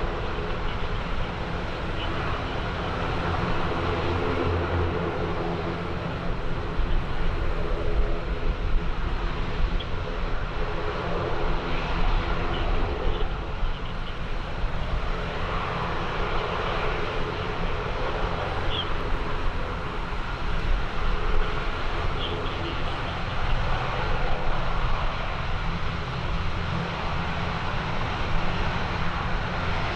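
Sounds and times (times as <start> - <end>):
aircraft engine droning: 0.0 - 29.9.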